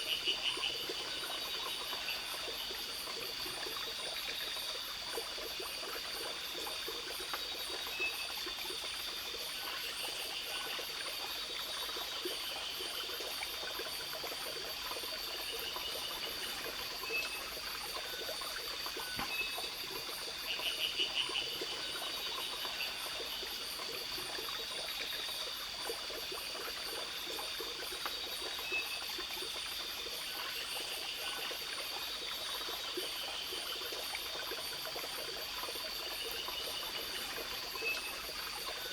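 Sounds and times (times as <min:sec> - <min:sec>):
insect chorus: 0:00.0 - 0:38.9
stream trickling: 0:00.0 - 0:38.9.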